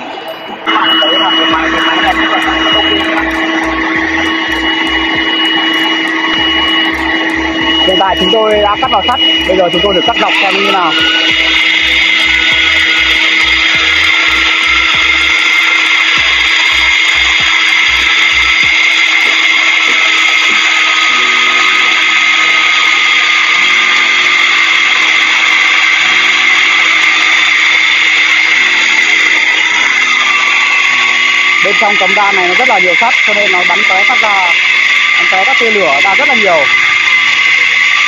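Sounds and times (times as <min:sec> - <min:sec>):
wall chaser cutting concrete: 0:00.0 - 0:38.0.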